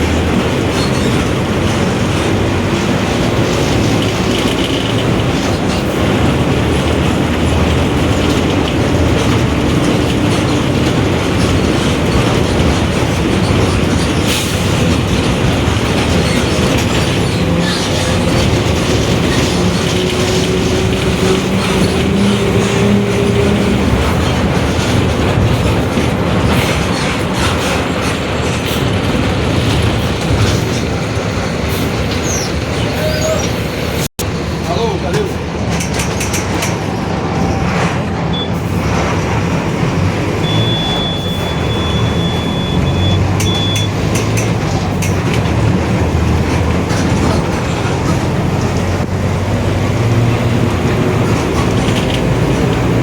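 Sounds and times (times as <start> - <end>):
diesel bus engine running: 0.0 - 53.0
road noise: 0.0 - 53.0.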